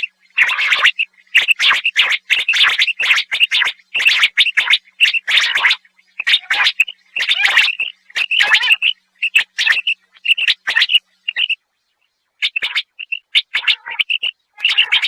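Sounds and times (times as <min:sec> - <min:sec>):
quail calling: 0:00.0 - 0:11.6, 0:12.4 - 0:15.0.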